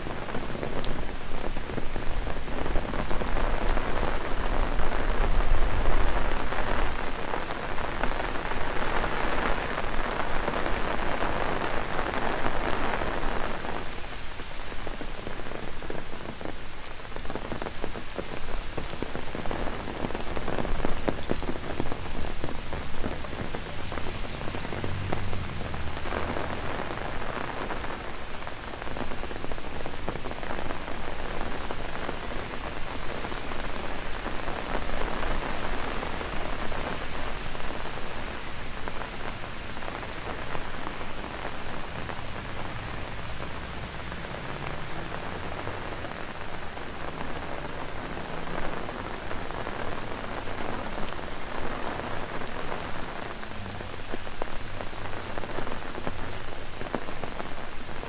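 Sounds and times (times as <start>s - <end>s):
cicadas droning: 0.0s - 58.0s
heavy rain on umbrella: 0.0s - 58.0s.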